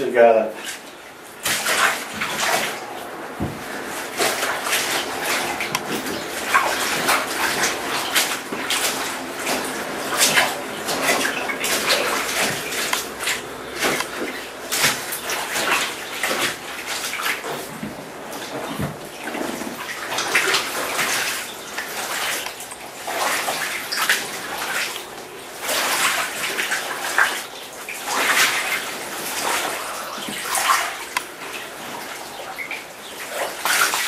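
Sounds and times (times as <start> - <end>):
pole stirring soaking fabric: 0.0 - 34.0
water sloshing in a bathtub: 0.0 - 34.0.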